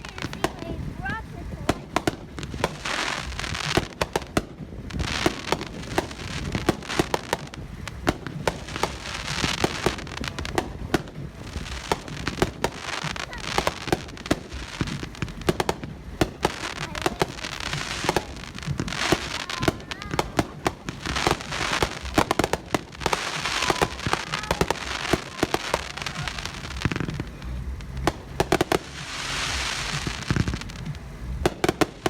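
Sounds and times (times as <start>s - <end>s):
crackling firework stars: 0.0s - 32.0s.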